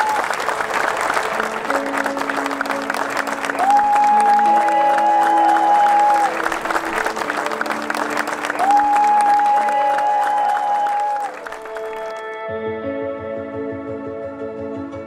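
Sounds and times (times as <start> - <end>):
guests applauding: 0.0 - 12.4
slow music of held notes: 0.0 - 15.0.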